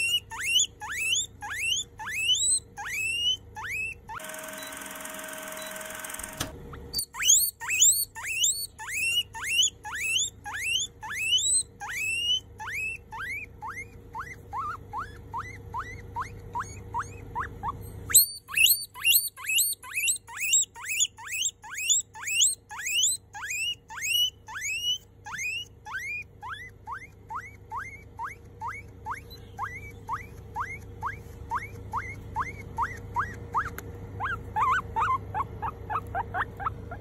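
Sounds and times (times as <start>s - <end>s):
guinea pig squealing: 0.0s - 4.8s, 6.2s - 37.0s.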